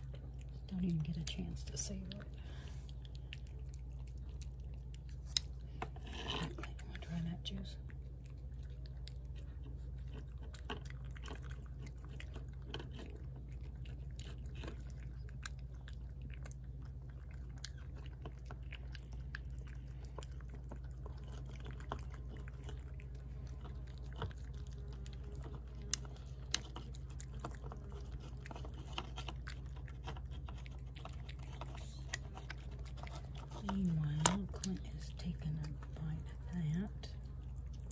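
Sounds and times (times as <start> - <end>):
cat chewing food: 0.0 - 37.9.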